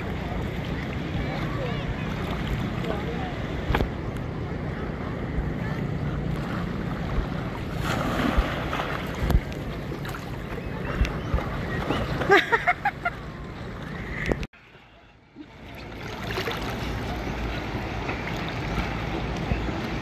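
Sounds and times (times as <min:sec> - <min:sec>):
water lapping: 0:00.0 - 0:20.0.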